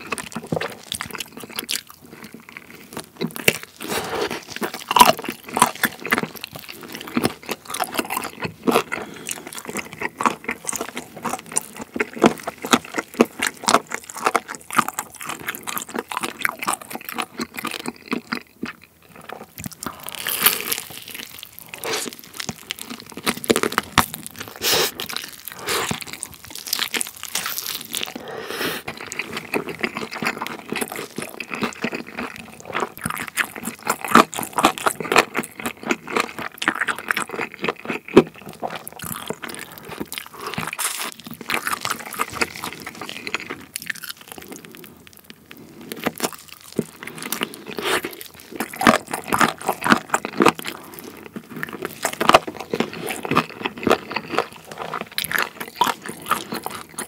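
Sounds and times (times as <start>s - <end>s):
crispy chicken crunching: 0.0s - 57.0s
wet chewing: 0.0s - 57.0s.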